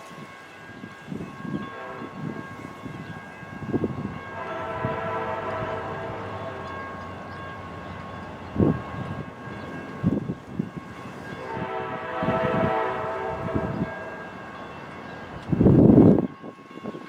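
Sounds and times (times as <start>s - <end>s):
locomotive horn: 1.6s - 16.3s.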